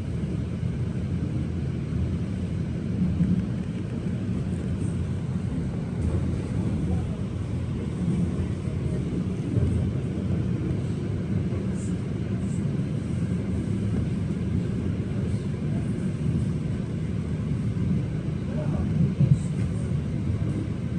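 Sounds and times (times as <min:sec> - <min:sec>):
train rumbling on track: 0:00.0 - 0:20.9.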